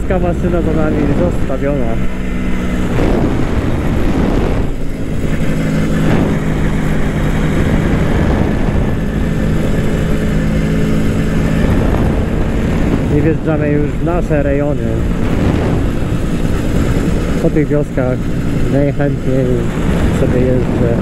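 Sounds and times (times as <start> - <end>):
two-stroke motorcycle engine running: 0.0 - 21.0
wind rush over microphone: 0.0 - 21.0.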